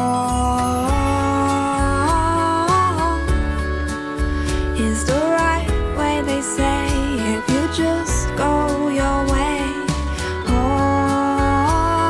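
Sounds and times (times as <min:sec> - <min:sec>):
person singing: 0:00.0 - 0:12.0
song with drums and bass: 0:00.0 - 0:12.0.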